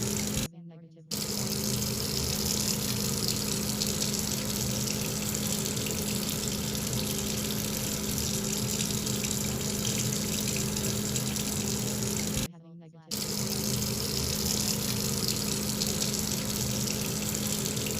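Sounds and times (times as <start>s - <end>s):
rushing water: 0.0s - 0.5s, 1.2s - 12.5s, 13.2s - 17.9s
low steady hum: 0.0s - 12.5s, 13.1s - 17.9s.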